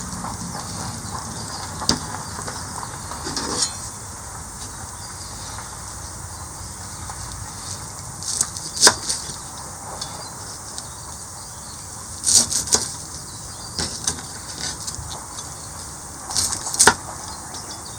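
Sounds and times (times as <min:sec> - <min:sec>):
fire crackling pops: 0:00.0 - 0:17.6
campfire burning: 0:00.0 - 0:17.9.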